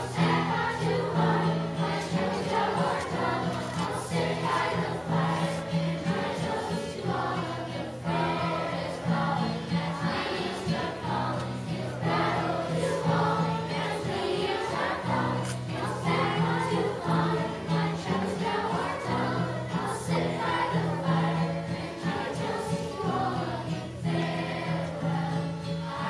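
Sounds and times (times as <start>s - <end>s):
children's choir singing: 0.0s - 26.0s
strummed acoustic guitar: 0.0s - 26.0s.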